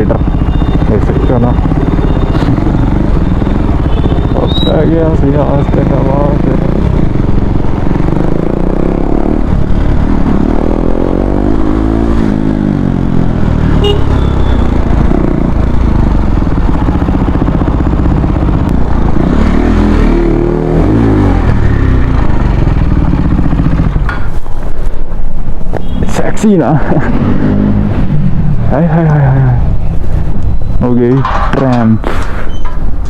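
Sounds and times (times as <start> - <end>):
motorcycle engine revving: 0.0 - 24.7, 25.7 - 33.0.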